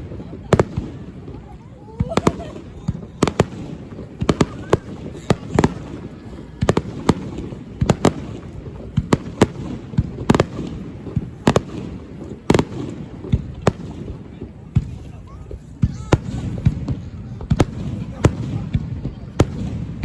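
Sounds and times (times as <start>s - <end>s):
fireworks bursting: 0.0s - 20.0s
people talking: 0.0s - 20.0s.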